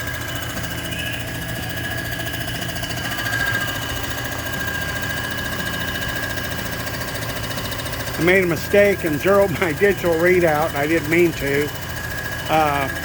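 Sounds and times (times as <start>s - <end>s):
machine hum with high whine: 0.0s - 13.0s.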